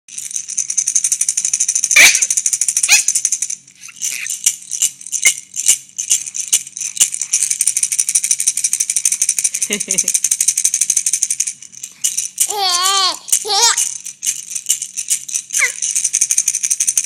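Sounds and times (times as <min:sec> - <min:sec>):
hand rattle shaken: 0:00.1 - 0:17.0.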